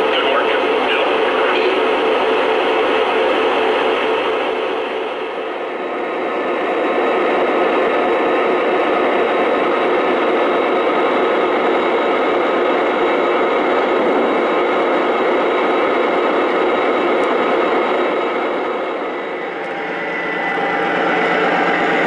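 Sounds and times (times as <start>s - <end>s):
model trains rumbling: 0.0s - 22.0s.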